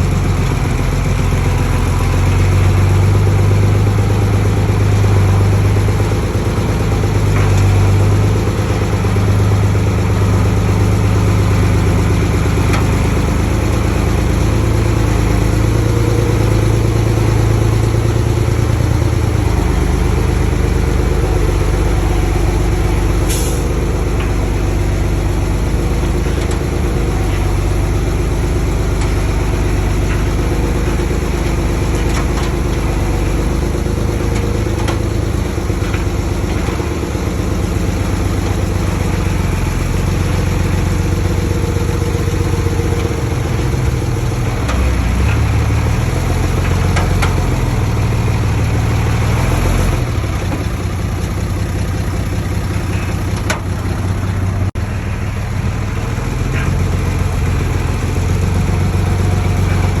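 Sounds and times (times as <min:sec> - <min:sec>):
diesel construction machinery running: 0:00.0 - 1:00.0.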